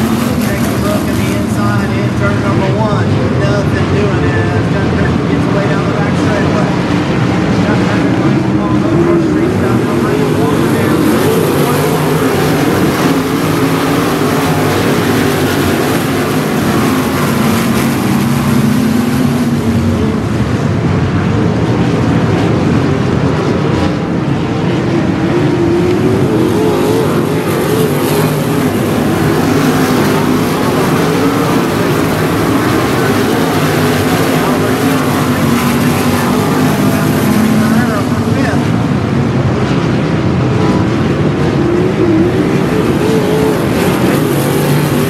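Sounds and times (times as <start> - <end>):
race car engines roaring past: 0.0 - 45.0.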